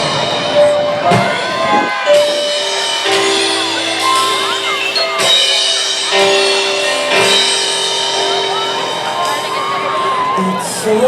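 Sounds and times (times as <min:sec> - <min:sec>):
drum kit: 0:00.0 - 0:11.0
piano chords: 0:00.0 - 0:11.0.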